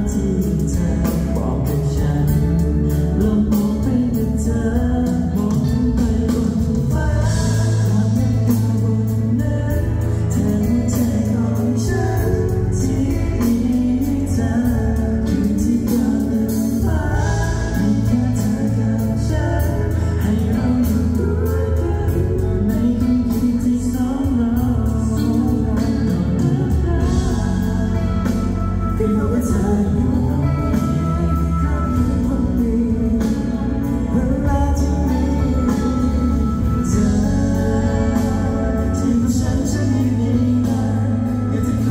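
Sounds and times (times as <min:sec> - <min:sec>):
instrumental backing with bass: 0:00.0 - 0:41.9
men singing live pop song: 0:00.0 - 0:41.9.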